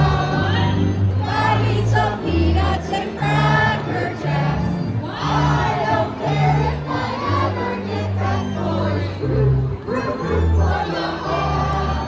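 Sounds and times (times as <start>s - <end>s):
group singing: 0.0s - 12.0s.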